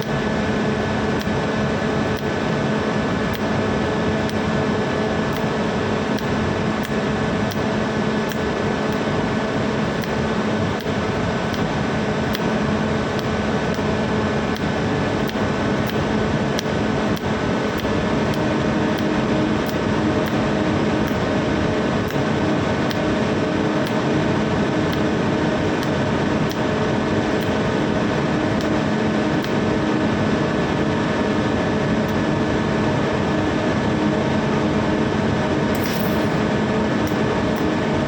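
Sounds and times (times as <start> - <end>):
mechanical hum and hiss: 0.0 - 38.0.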